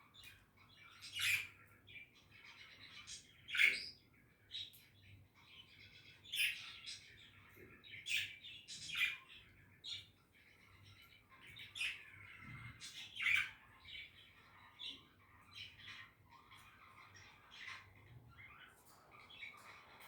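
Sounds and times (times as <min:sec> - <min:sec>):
budgerigars chirping and warbling: 0:00.0 - 0:20.0.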